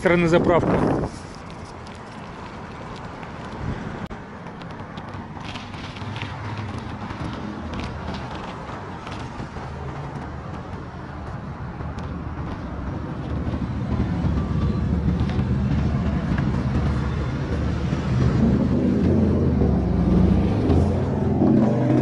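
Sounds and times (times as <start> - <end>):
cars driving past: 0.1 - 22.0.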